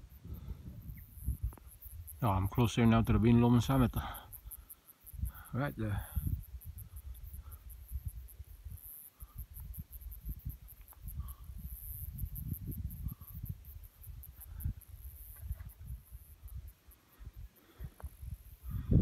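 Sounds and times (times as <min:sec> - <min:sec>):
wind buffeting microphone: 0:00.0 - 0:04.1, 0:05.1 - 0:19.0
insects chirping: 0:00.0 - 0:19.0.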